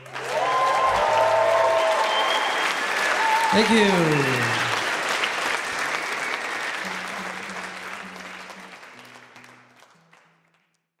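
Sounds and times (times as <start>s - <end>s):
audience applause: 0.0s - 10.3s.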